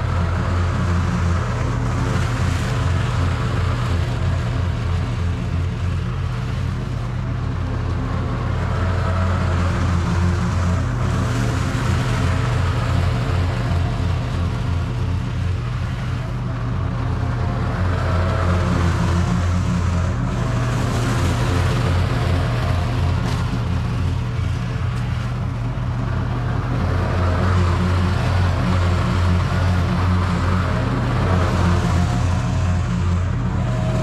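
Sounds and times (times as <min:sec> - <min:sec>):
lawn mower engine drone: 0:00.0 - 0:34.0.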